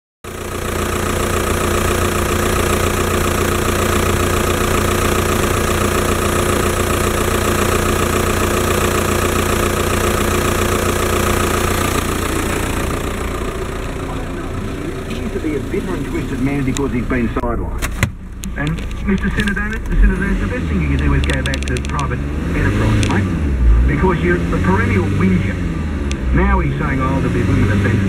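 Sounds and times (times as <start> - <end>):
diesel engine idling: 0.2 - 28.0.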